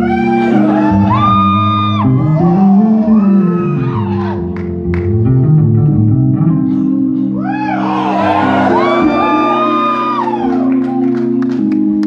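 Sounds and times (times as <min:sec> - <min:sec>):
electric bass line: 0:00.0 - 0:12.0
keyboard chords: 0:00.0 - 0:12.0.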